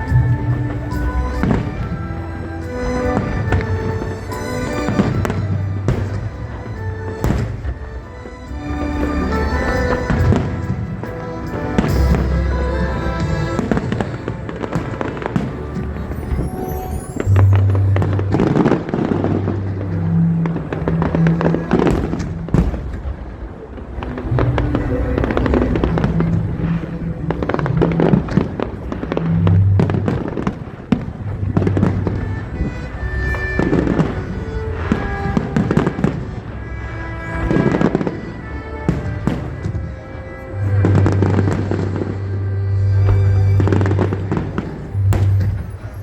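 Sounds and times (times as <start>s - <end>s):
fireworks bursting: 0.0s - 8.0s, 9.0s - 42.1s
music with deep bass notes: 0.0s - 46.0s.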